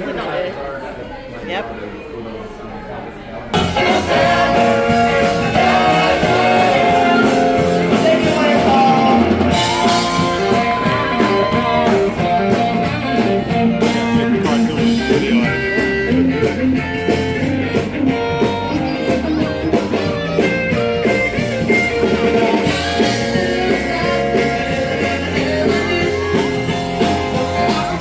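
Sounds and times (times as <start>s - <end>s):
song with guitar drums and vocals: 3.6s - 28.0s.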